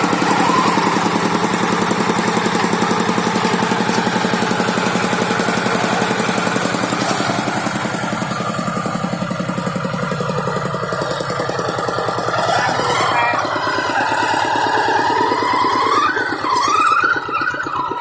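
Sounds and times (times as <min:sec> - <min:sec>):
tractor engine chugging: 0:00.0 - 0:18.0.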